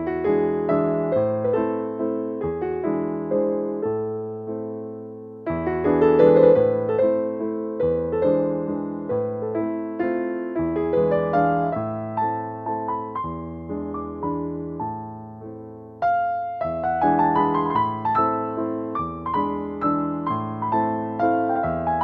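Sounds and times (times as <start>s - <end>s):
piano chords: 0.0s - 22.0s.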